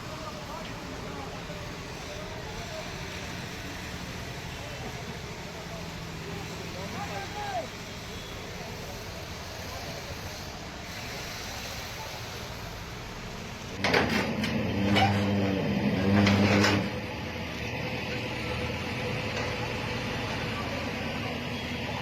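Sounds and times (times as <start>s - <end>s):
construction machinery hum: 0.0s - 22.0s
construction site noise: 0.0s - 22.0s.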